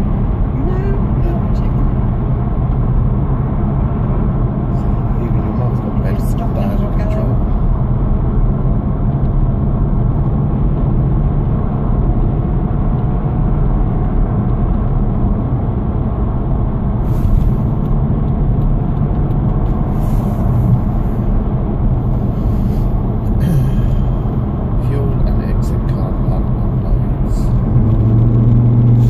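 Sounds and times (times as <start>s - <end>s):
tyre and engine rumble: 0.0s - 29.0s.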